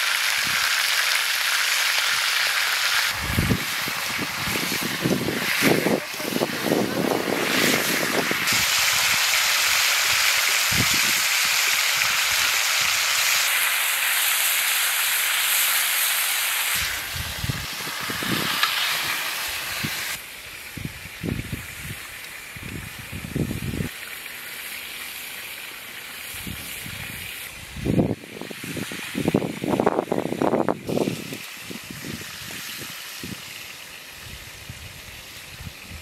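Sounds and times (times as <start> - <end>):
meat sizzling in a hot pan: 0.0 - 36.0.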